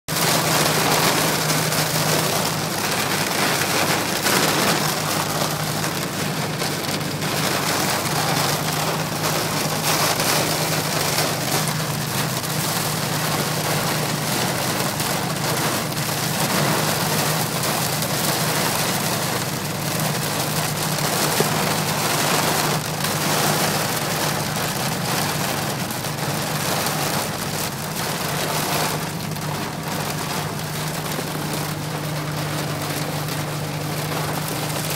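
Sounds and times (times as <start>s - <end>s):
heavy rain on windshield: 0.1s - 34.9s.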